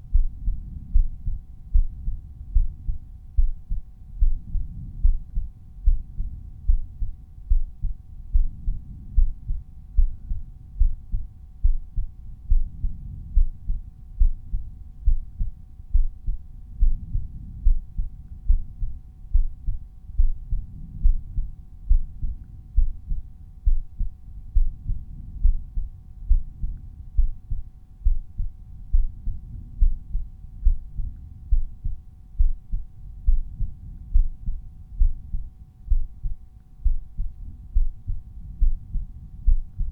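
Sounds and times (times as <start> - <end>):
human heartbeat: 0.0 - 39.9.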